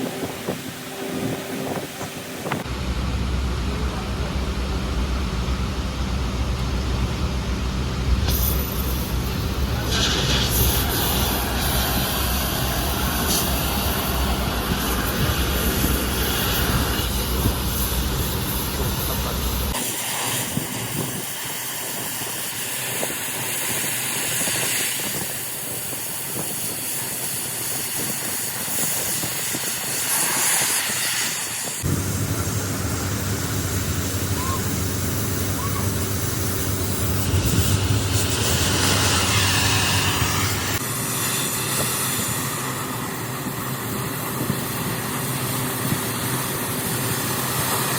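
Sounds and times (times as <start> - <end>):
steady rushing hiss: 8.2 - 47.9.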